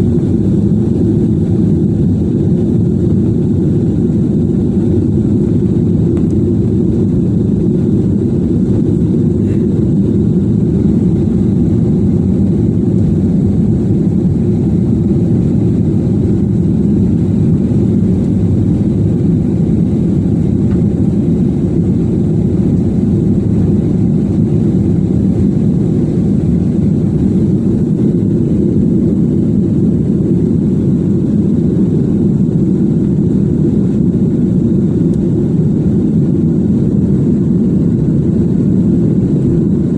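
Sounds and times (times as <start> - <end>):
airliner engines rumbling in cabin: 0.0 - 39.9.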